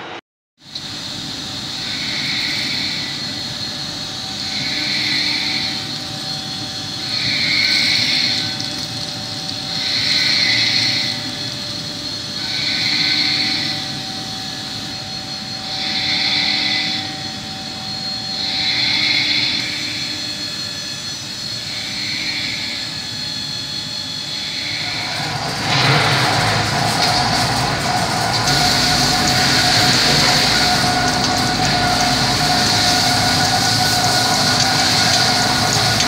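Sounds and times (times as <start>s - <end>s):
rough machine noise: 0.0s - 20.2s, 24.2s - 36.0s
industrial machinery whining: 0.0s - 36.0s.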